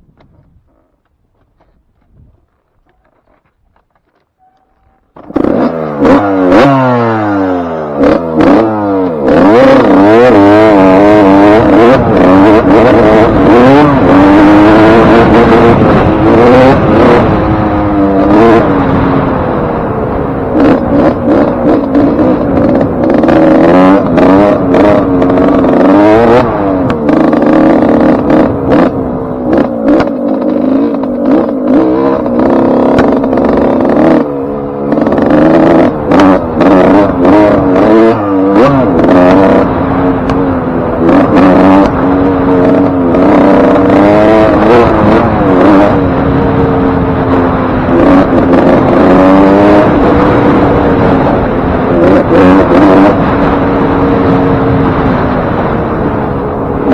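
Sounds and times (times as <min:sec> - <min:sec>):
dirt bike engine revving: 0:04.8 - 0:56.9.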